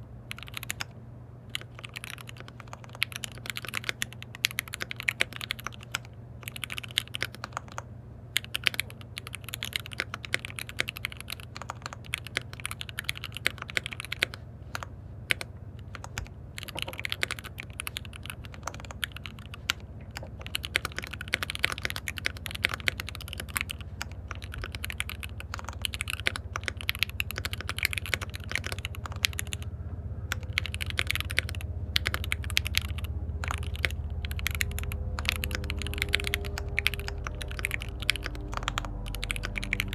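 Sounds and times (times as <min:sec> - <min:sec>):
steady low hum: 0:00.0 - 0:39.9
mechanical keyboard typing: 0:00.3 - 0:00.9, 0:01.5 - 0:07.8, 0:08.4 - 0:29.7, 0:30.3 - 0:39.9.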